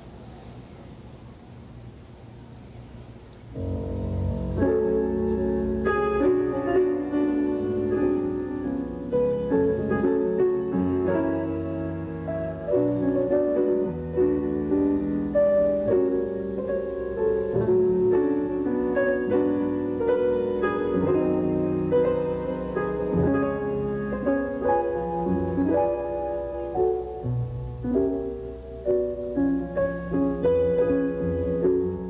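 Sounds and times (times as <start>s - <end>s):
piano music: 3.5s - 32.0s.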